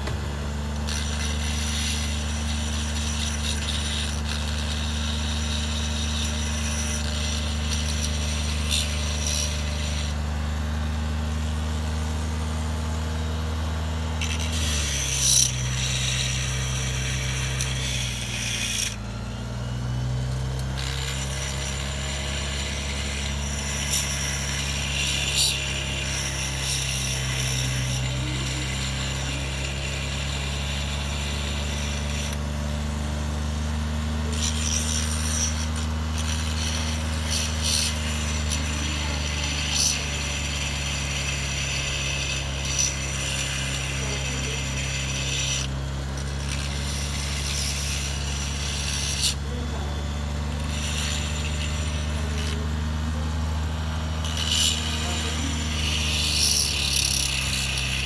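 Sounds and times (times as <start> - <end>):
machine motor running: 0.0 - 58.0
scraping and cutting: 0.0 - 58.0.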